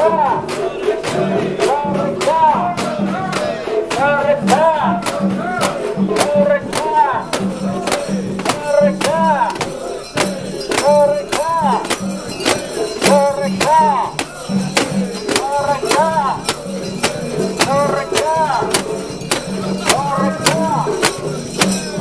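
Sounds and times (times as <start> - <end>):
people chanting rhythmically: 0.0 - 22.0.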